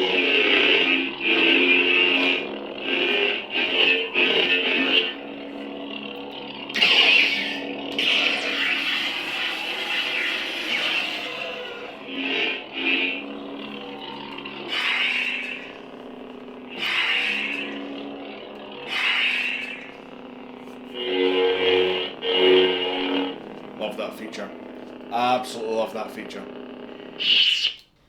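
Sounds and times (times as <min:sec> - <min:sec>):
lightsaber electric hum: 0:00.0 - 0:27.9.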